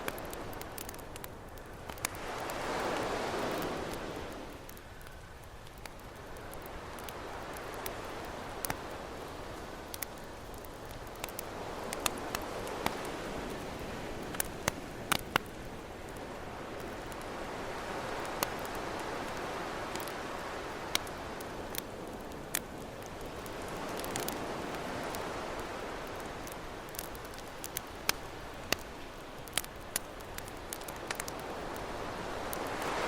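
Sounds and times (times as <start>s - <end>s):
campfire crackling and popping: 0.0s - 33.0s
ocean waves: 1.9s - 5.2s, 6.0s - 22.4s, 23.0s - 33.0s.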